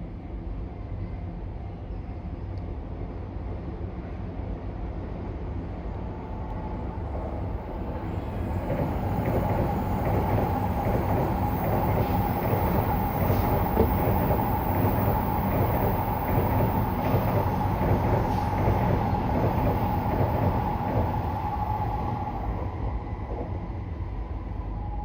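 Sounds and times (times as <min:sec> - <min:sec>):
high-speed train approaching: 0:00.0 - 0:25.0.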